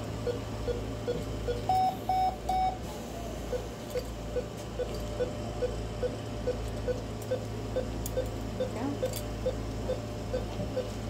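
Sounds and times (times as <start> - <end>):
patient monitor beeping: 0.2 - 2.8, 3.5 - 11.0.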